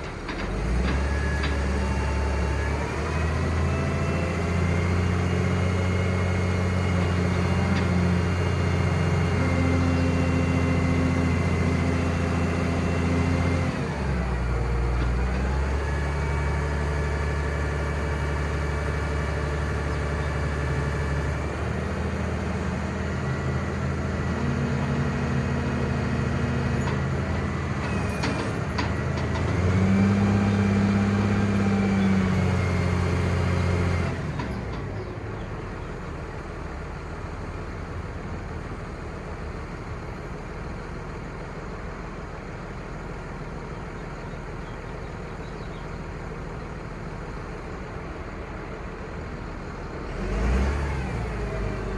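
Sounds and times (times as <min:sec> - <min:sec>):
diesel truck engine running: 0:00.0 - 0:51.9.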